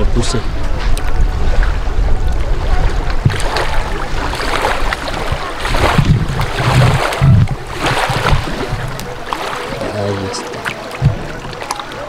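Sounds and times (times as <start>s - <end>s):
small waves lapping shore: 0.0s - 12.0s
wind buffeting microphone: 0.0s - 12.0s.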